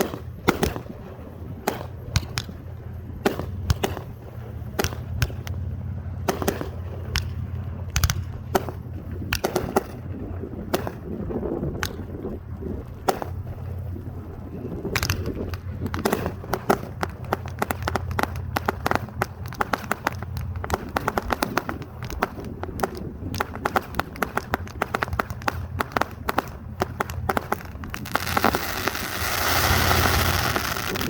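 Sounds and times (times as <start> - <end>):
fireworks crackling pops: 0.0 - 31.0
low rumble: 0.0 - 31.0.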